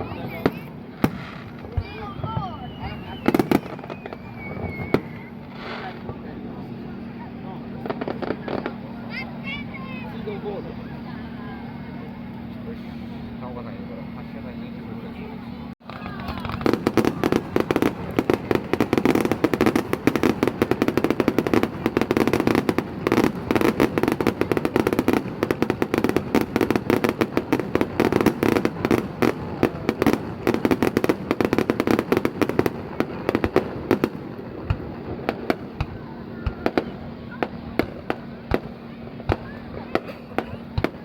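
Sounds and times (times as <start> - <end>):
fireworks crackling and popping: 0.0 - 10.5, 15.8 - 41.0.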